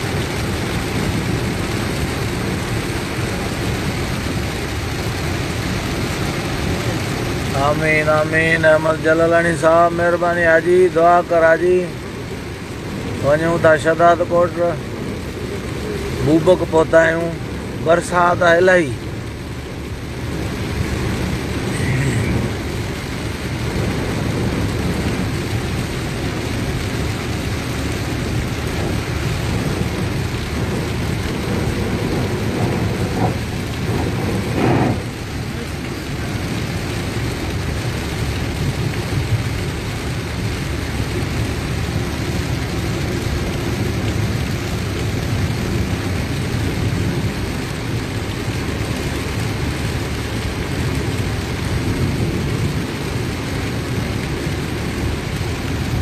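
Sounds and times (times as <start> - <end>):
heavy rain on vehicle roof: 0.0 - 56.0
road noise: 0.0 - 56.0.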